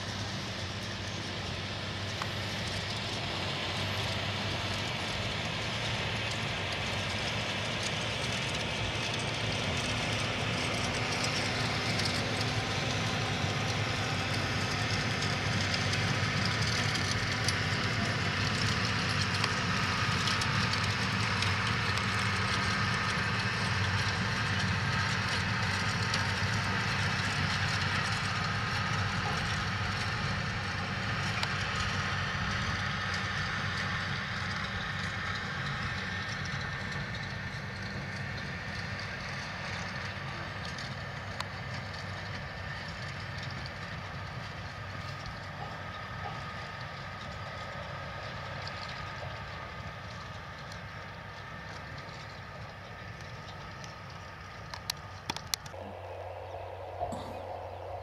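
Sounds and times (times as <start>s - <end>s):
forage wagon rotor mechanical noise: 0.0s - 58.0s
tractor diesel engine under load: 0.0s - 58.0s.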